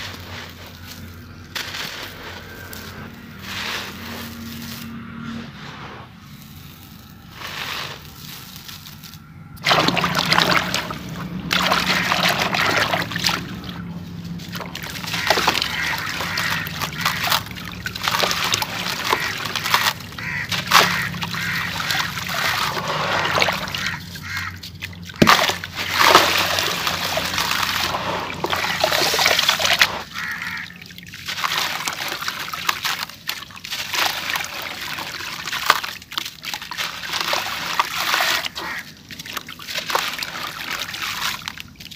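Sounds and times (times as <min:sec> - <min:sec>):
muddy water sloshing: 0:00.0 - 0:41.9.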